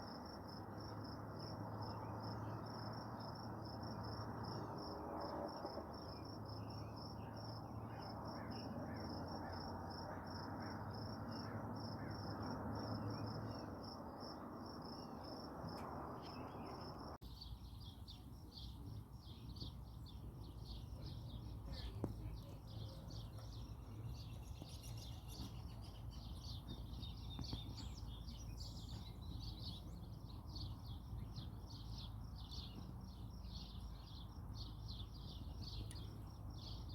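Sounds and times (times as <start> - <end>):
crickets trilling: 0.1 - 36.9.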